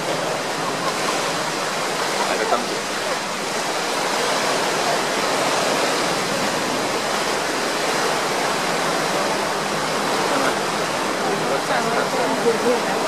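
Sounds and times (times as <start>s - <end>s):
speedboat rushing through water: 0.0s - 13.0s.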